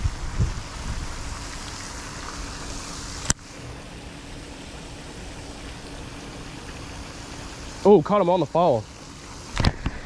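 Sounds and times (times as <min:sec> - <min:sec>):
fountain spraying hiss: 0:00.0 - 0:10.0.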